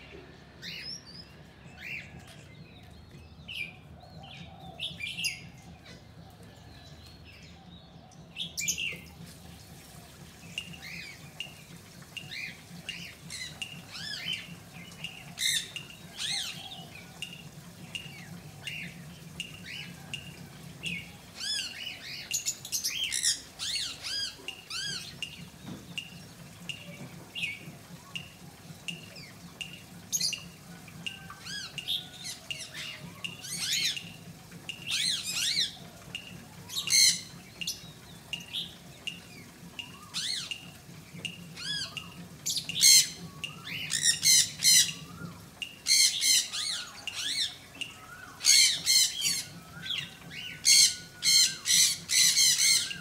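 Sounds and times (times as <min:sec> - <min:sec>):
birds chirping and squawking: 0:00.2 - 0:53.0.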